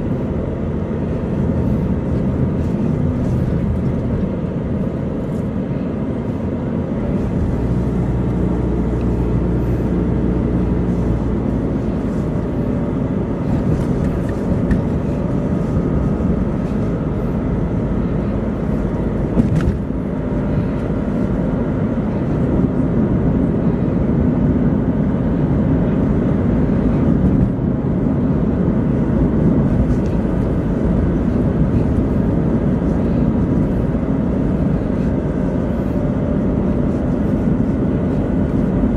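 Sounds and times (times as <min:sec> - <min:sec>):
faint engine hum: 0:00.0 - 0:38.9
tyre and engine rumble: 0:00.0 - 0:38.9.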